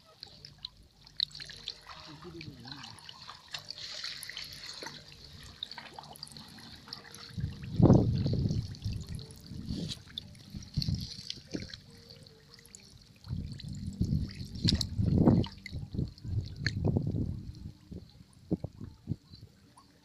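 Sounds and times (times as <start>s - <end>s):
water sloshing from wading: 0.0s - 20.0s.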